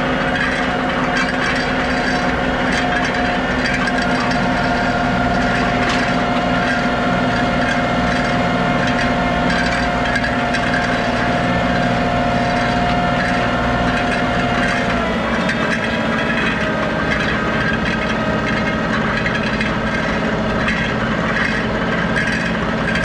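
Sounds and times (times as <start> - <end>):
high whine: 0.0 - 23.0
tractor diesel engine running: 0.0 - 23.0.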